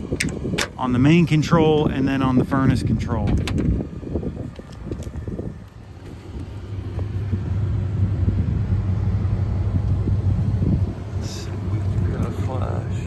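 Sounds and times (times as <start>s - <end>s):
blower running with low hum: 0.0s - 13.0s.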